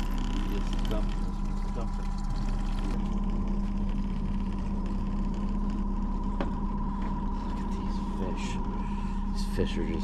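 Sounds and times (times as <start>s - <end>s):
outboard motor humming: 0.0s - 10.0s.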